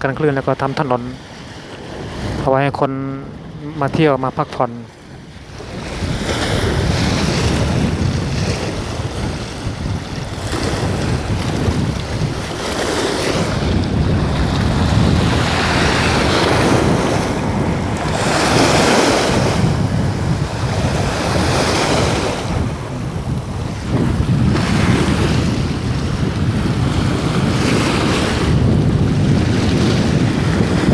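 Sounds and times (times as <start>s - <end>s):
wind buffeting microphone: 0.0s - 30.9s
waves washing against rocks: 0.1s - 30.9s.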